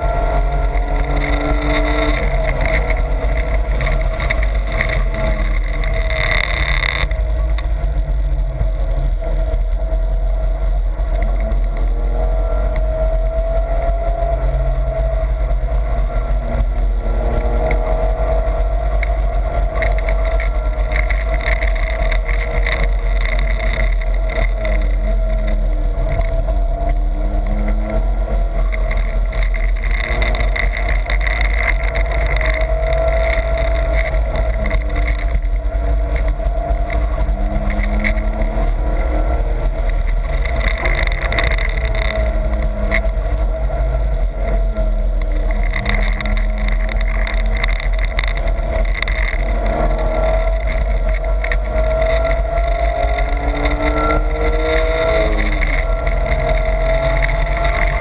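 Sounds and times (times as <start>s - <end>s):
car engine running hard: 0.0s - 58.0s
road and wind noise: 0.0s - 58.0s.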